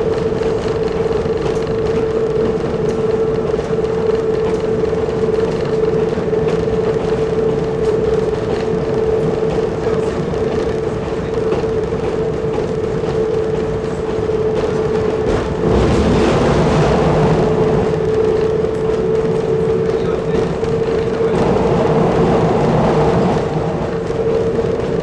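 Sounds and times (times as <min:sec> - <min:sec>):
constant high hum: 0:00.0 - 0:25.0
railbus engine drone: 0:00.0 - 0:25.0
wheels clicking on track: 0:00.0 - 0:25.0.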